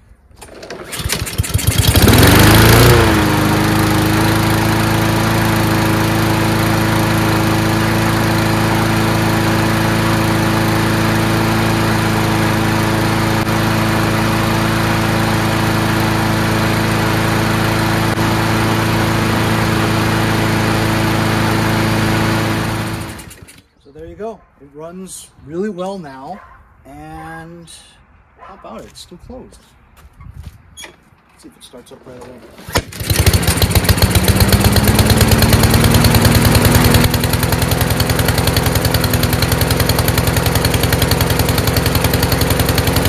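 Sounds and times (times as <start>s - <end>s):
mower engine starting and running: 0.1s - 23.8s, 32.2s - 43.0s.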